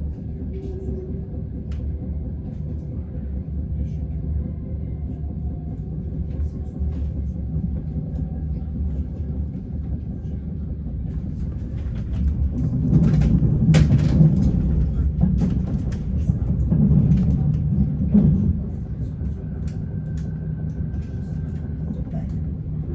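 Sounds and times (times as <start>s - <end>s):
train rumble inside coach: 0.0s - 22.9s.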